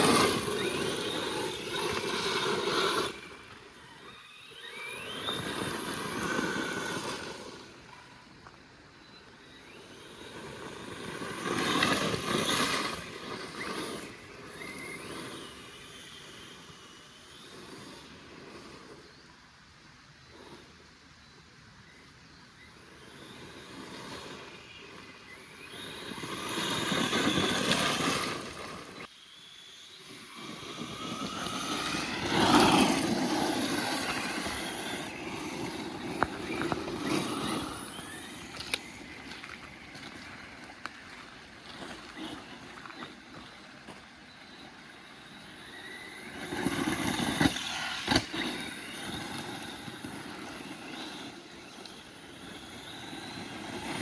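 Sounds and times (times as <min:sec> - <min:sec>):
rc car motor whining: 0:00.0 - 0:54.0.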